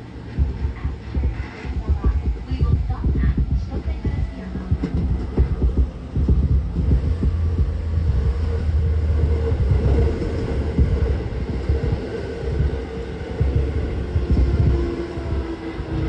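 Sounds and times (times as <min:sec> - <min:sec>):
steady tone: 0:00.0 - 0:16.0
train wheels rumbling on rails: 0:00.0 - 0:16.0.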